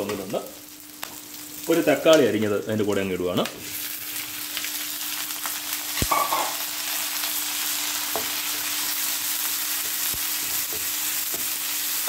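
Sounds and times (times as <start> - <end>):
onion and tomato sizzling in oil: 0.0 - 12.0.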